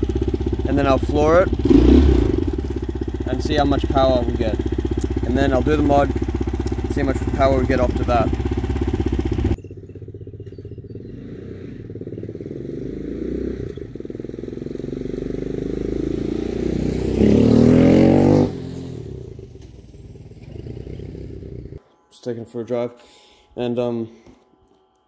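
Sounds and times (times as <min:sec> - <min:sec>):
quad bike engine passing: 0:00.0 - 0:21.8.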